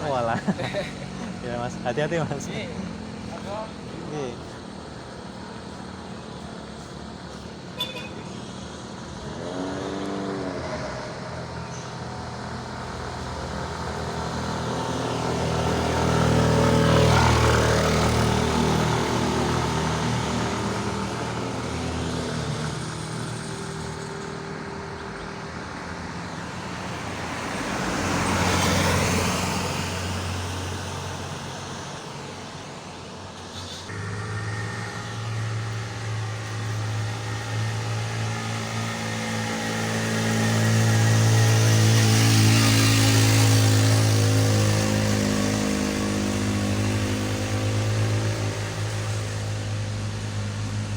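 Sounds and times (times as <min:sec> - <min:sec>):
engine running close by: 0:00.0 - 0:50.9
vehicles driving uphill: 0:00.0 - 0:50.9.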